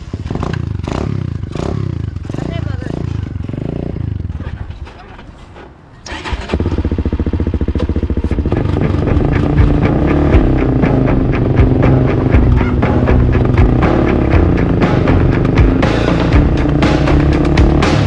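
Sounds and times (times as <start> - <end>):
four-wheeler engine running hard: 0.0 - 4.7, 6.1 - 18.0.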